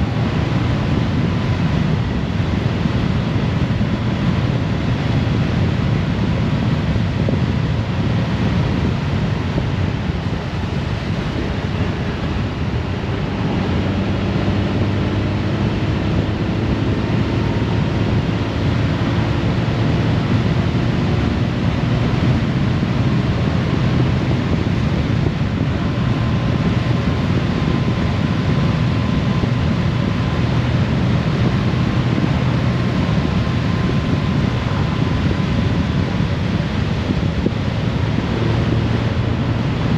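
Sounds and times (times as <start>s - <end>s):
motorcycle engine hum: 0.0s - 39.9s
wind rush and road noise: 0.0s - 39.9s.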